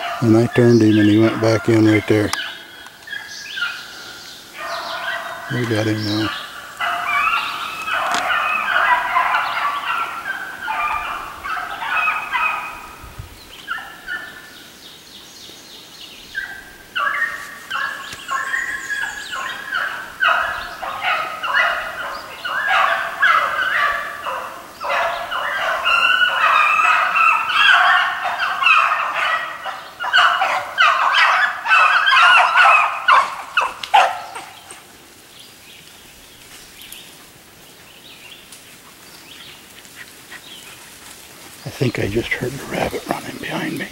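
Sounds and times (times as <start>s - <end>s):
hounds baying: 0.0s - 14.5s, 16.3s - 35.0s, 38.7s - 43.9s.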